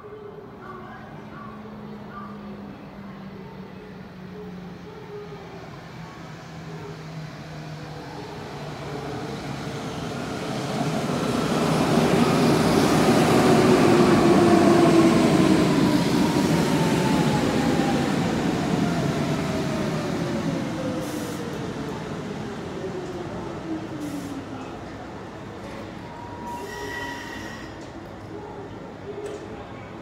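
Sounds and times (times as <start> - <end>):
train wheel and track noise: 0.0 - 30.0.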